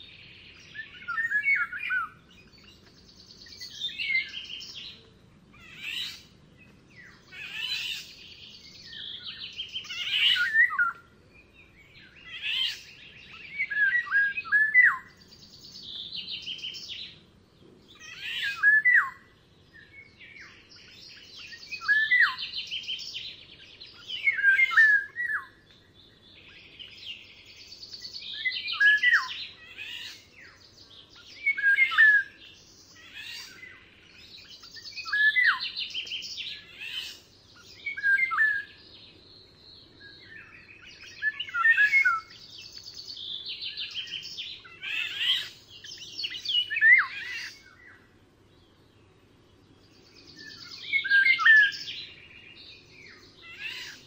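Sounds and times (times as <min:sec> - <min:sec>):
songbird trilling and whistling: 0:00.0 - 0:05.0, 0:05.6 - 0:06.3, 0:07.0 - 0:17.2, 0:17.9 - 0:48.0, 0:49.9 - 0:54.0.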